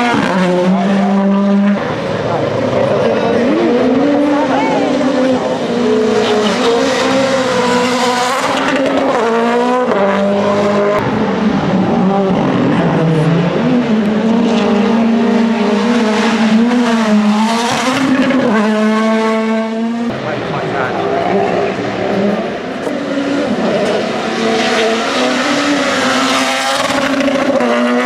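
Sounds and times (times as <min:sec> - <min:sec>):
turbocharged car engine revving: 0:00.0 - 0:28.0.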